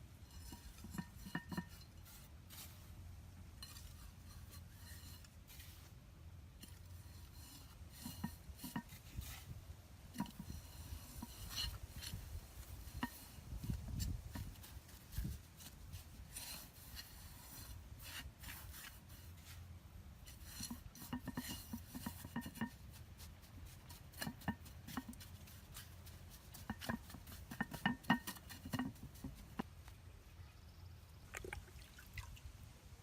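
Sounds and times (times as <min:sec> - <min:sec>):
scraping and rubbing: 0:00.2 - 0:30.0.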